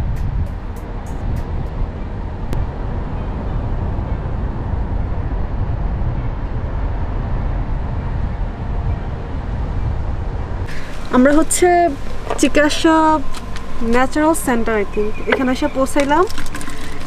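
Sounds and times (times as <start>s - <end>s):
car tyres and engine rumble: 0.0s - 17.0s.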